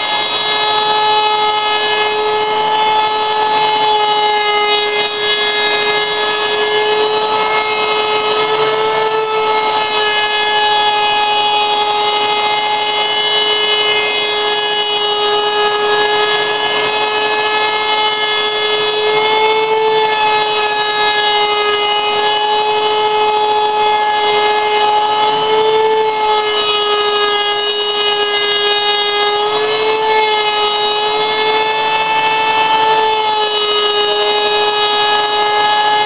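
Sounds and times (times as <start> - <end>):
router cutting wood rasp: 0.0 - 36.0
router whining: 0.0 - 36.0.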